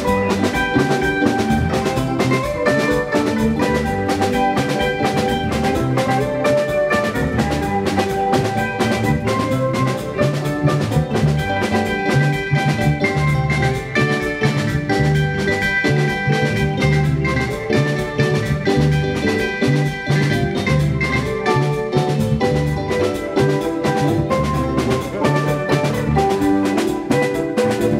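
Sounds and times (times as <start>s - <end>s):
drum kit beat: 0.0s - 27.9s
electric bass: 0.0s - 27.9s
electric lead guitar: 0.0s - 27.9s.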